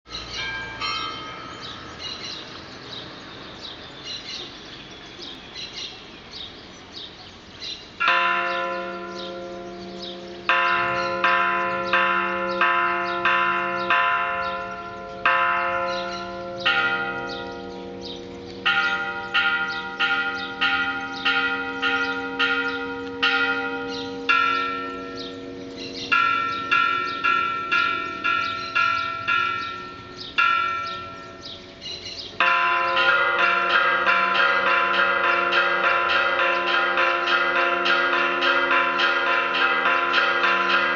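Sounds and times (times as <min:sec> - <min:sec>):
church bells ringing: 0:00.1 - 0:04.4, 0:08.0 - 0:40.9
birds chirping: 0:00.1 - 0:40.9.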